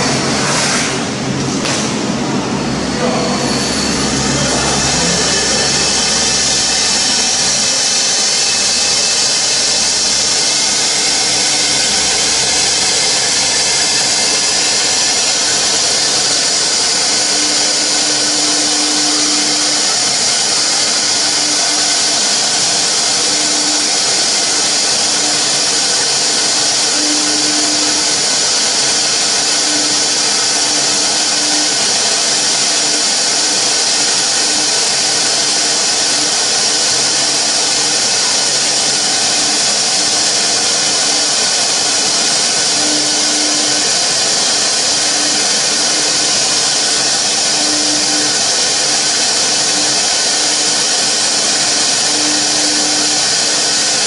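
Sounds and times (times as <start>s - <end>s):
router cutting foam with hiss: 0.0s - 54.0s.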